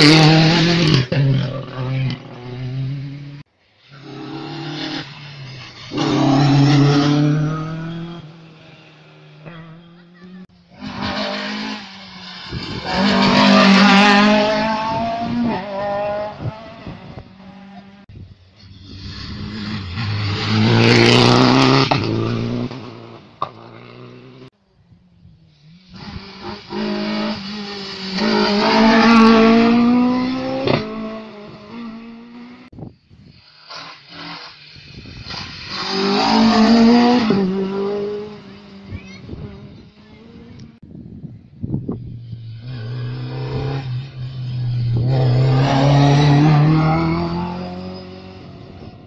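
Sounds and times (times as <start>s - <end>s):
rally cars revving past: 0.0s - 18.1s, 18.8s - 24.5s, 25.6s - 32.7s, 35.3s - 40.8s, 42.3s - 49.0s.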